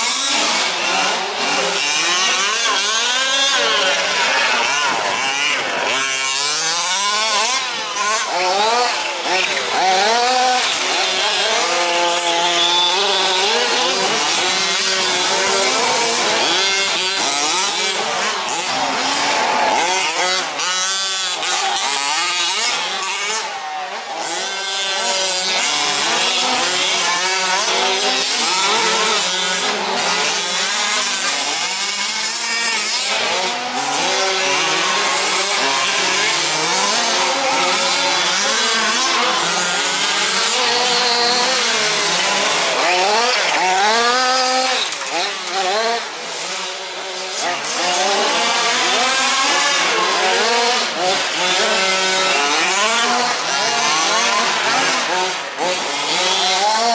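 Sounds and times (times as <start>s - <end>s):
remote-control truck engines revving: 0.0s - 56.9s.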